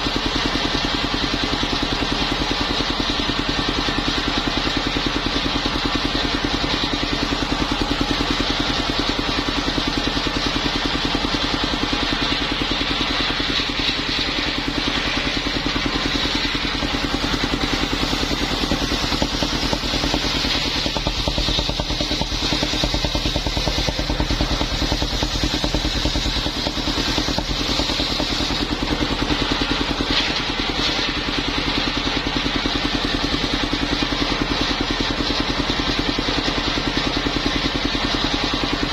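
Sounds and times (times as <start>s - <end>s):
sawmill engine running steadily: 0.0s - 38.9s.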